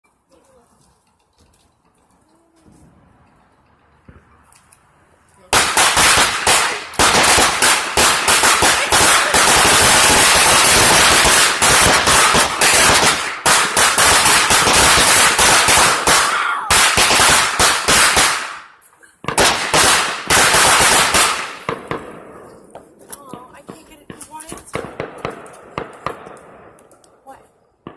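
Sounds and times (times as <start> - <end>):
fireworks bangs: 5.5 - 27.9.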